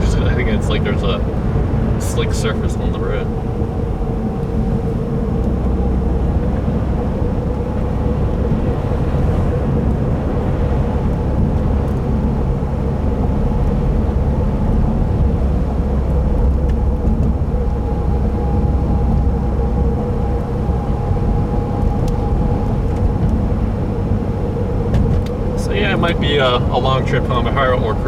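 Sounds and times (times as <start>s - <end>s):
engine and tyres rumbling: 0.0s - 28.0s.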